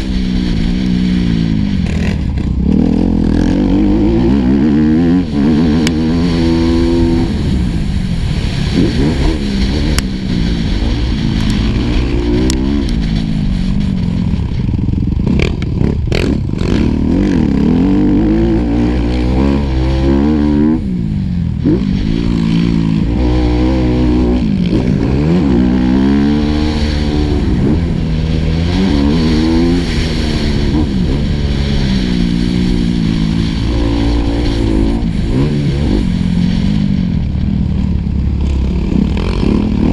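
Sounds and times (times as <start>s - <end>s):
motocross bike engine revving: 0.0s - 39.9s
wind on microphone: 0.0s - 39.9s.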